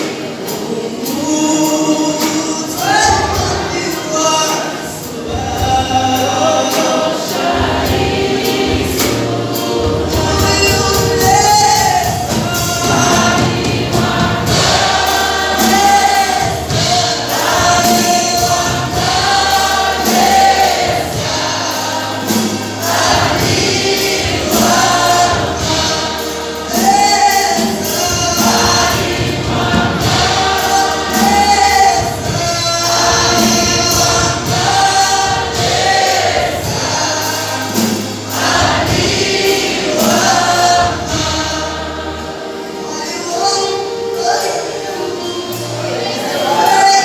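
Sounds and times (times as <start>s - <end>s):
choir singing gospel: 0.0s - 47.0s
keyboard bass line: 0.0s - 47.0s.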